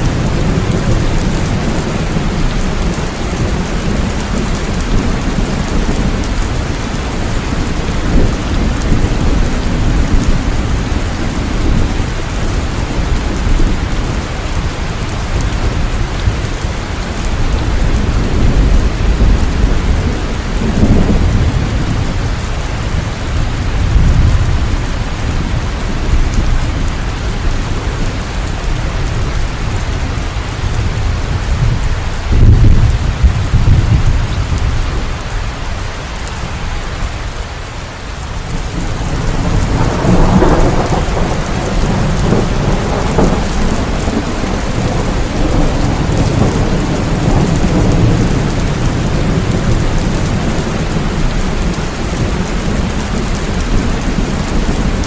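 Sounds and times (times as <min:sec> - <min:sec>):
rain falling: 0:00.0 - 0:55.0
thunder rumbling: 0:00.0 - 0:55.0.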